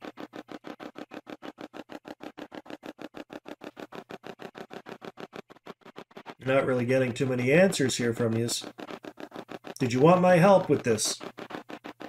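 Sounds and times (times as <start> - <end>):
radio static chopping: 0.0 - 12.0.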